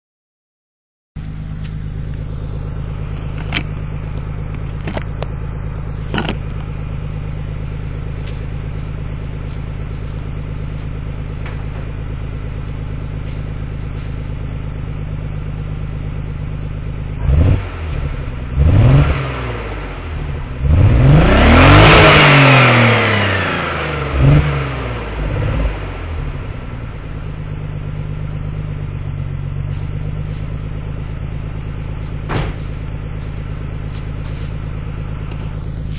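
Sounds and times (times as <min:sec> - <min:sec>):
car engine idling and revving: 0:01.2 - 0:35.9.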